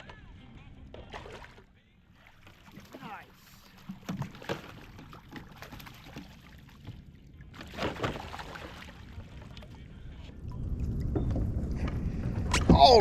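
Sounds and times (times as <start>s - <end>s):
water lapping around a kayak: 1.0s - 13.0s.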